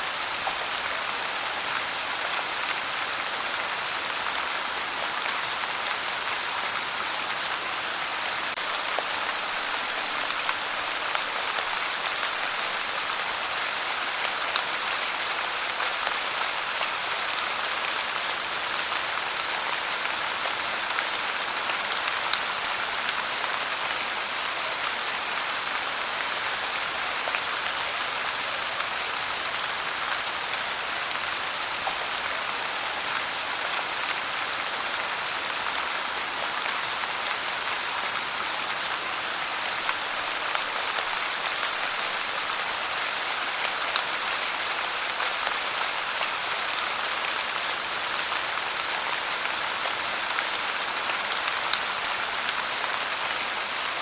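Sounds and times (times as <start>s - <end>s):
rain pouring: 0.0s - 54.0s.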